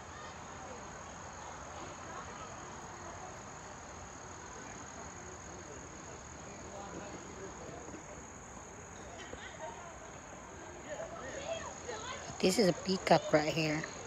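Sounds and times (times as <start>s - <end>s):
crickets trilling: 0.0s - 14.0s
faint outdoor background noise: 0.0s - 14.0s.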